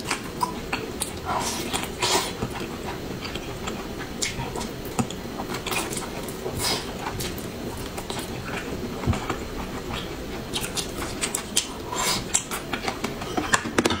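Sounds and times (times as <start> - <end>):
chewing and biting: 0.0 - 13.6.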